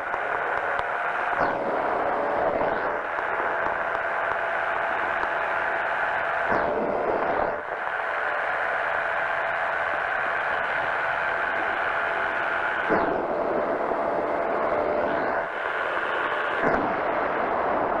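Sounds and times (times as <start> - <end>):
powered parachute engine and propeller: 0.0 - 18.0.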